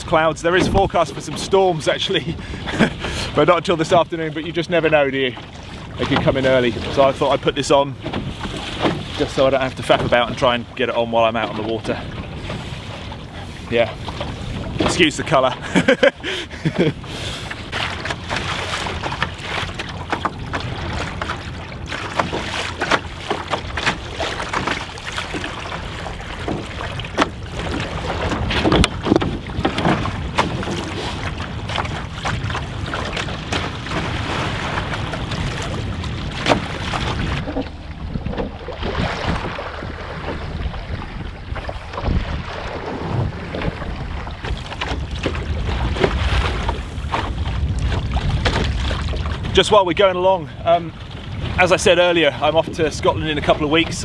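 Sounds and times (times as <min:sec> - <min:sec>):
water slapping against hull: 0:00.0 - 0:54.0
wind buffeting microphone: 0:00.0 - 0:54.0.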